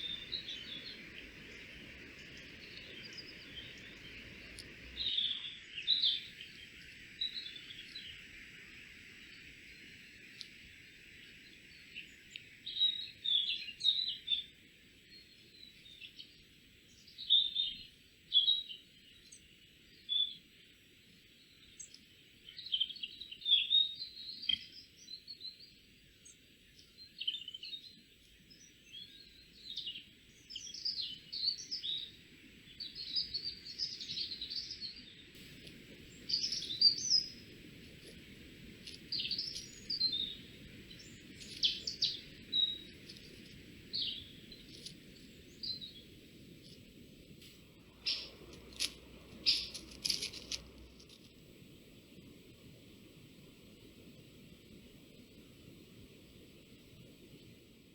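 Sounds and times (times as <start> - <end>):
songbirds chirping and singing: 0.0 - 20.5, 21.4 - 47.0, 47.8 - 51.2
faint background hiss: 0.0 - 57.9.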